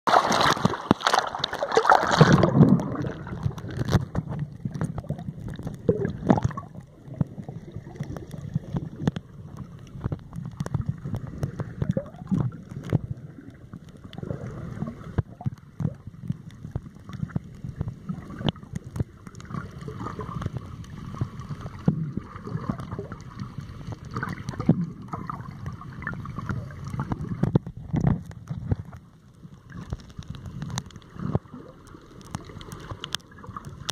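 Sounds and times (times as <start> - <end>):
muffled underwater moving water: 0.1 - 33.9
rush of water: 0.1 - 33.9
small underwater clicks and crackles: 0.1 - 33.9.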